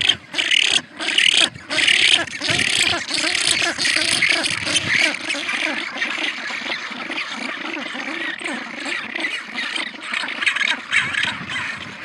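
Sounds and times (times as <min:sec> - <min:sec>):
penguins braying and squawking: 0:00.0 - 0:12.0.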